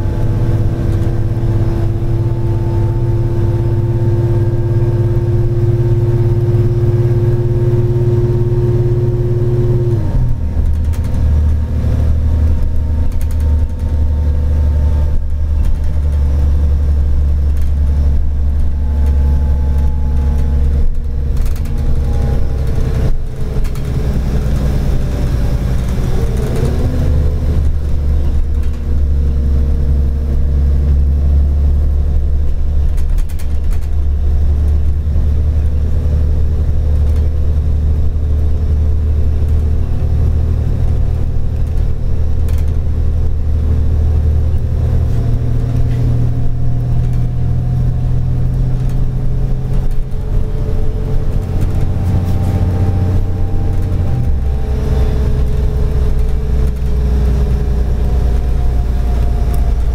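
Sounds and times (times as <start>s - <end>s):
bus engine rumble: 0.0s - 59.9s
drivetrain whine: 0.0s - 59.9s.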